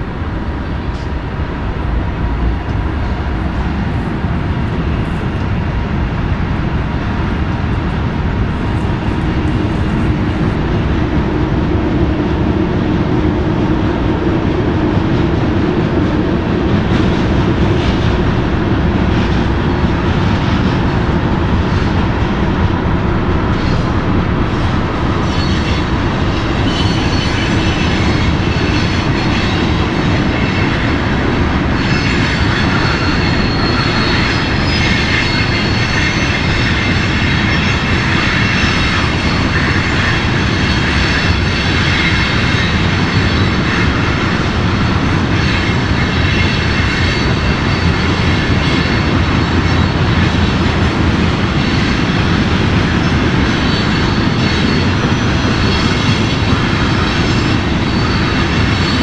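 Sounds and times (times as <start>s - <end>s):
freight train running noise: 0.0s - 59.0s.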